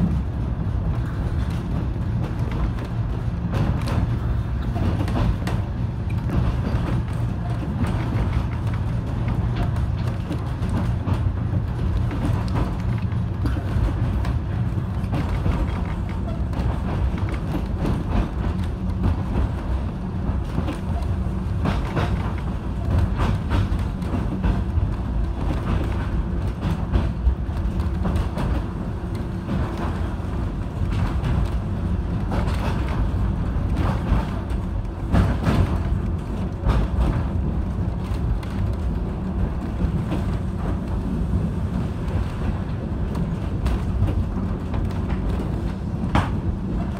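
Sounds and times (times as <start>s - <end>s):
tram wheels rumbling: 0.0s - 46.9s.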